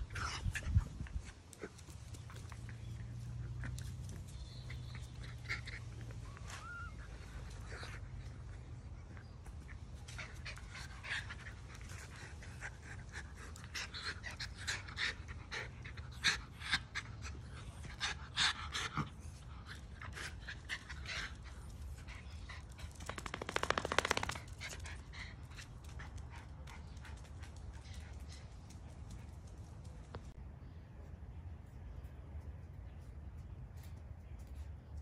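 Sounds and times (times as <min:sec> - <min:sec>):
dogs panting: 0:00.0 - 0:30.4.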